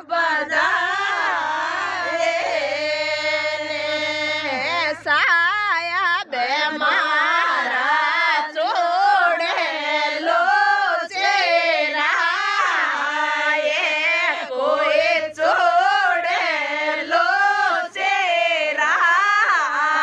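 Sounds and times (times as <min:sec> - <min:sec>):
woman singing unaccompanied folk song: 0:00.0 - 0:20.0.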